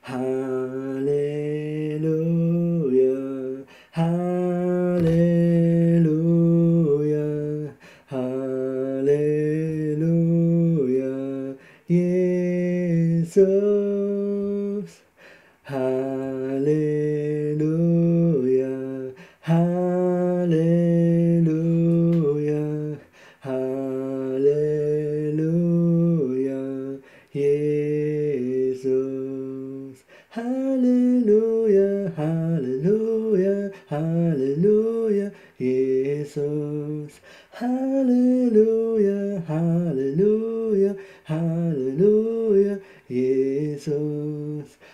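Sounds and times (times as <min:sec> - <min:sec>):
man singing slow worship melody: 0:00.0 - 0:44.9.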